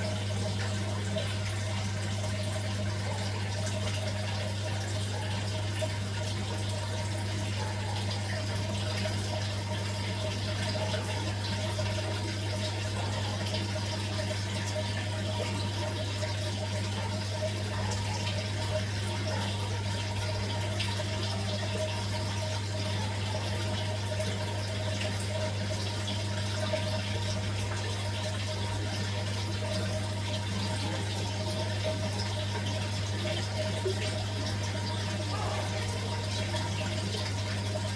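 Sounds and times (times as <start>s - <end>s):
pump humming: 0.0s - 37.9s
water bubbling and trickling: 0.0s - 37.9s.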